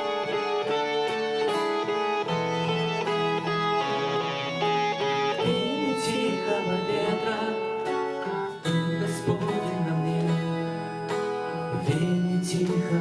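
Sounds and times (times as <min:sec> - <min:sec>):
guitar-led instrumental music: 0:00.0 - 0:13.0.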